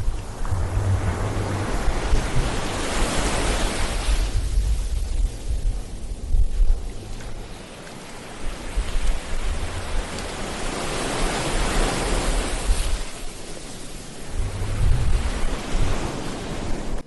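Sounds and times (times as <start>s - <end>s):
ocean waves washing onto beach: 0.0s - 17.0s
wind rumble on microphone: 0.0s - 17.0s.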